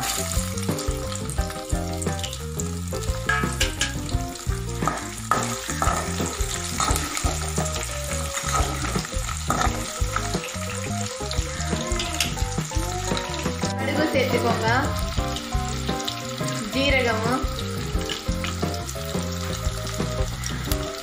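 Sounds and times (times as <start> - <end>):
background music: 0.0 - 21.0
garlic sizzling in hot oil: 0.0 - 21.0.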